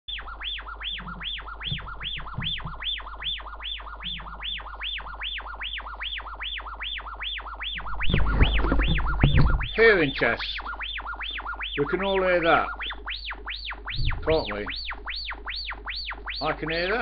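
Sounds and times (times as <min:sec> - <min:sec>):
electronic warbling tone: 0:00.1 - 0:17.0.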